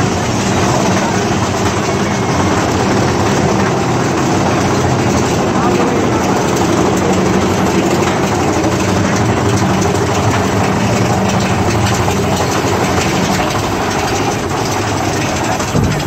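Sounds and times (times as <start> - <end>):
roller coaster cars rumbling: 0.0 - 16.0.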